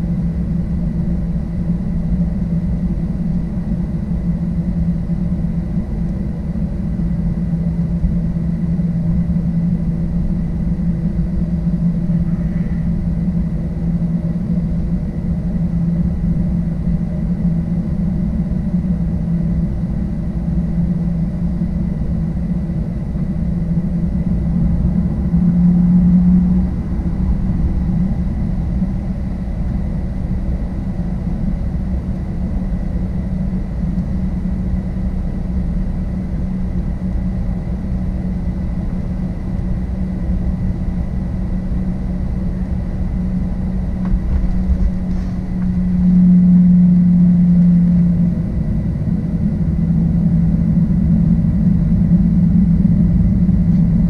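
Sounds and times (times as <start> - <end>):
jet engine hum and rumble: 0.0 - 54.0.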